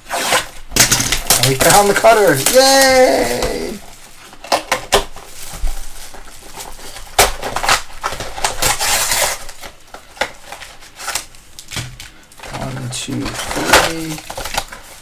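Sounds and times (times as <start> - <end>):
wrapper crinkling: 0.8 - 15.0.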